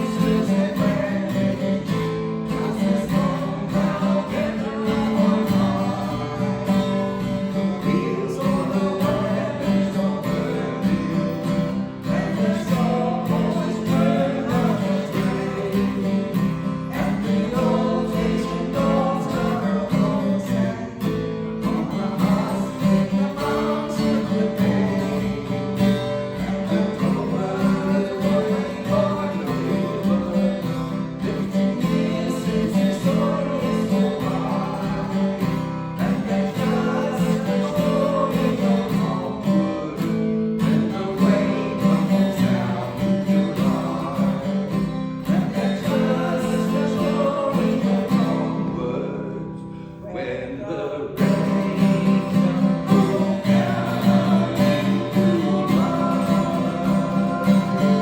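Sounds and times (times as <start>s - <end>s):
person singing country song: 0.0s - 58.0s
strummed acoustic guitar: 0.0s - 58.0s.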